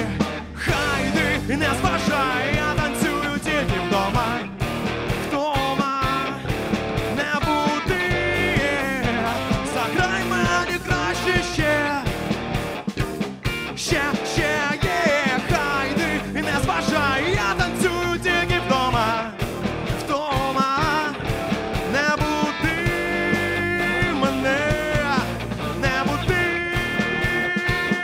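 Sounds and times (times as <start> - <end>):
bass guitar: 0.0 - 28.0
drums: 0.0 - 28.0
electric guitar lead with bends: 0.0 - 28.0.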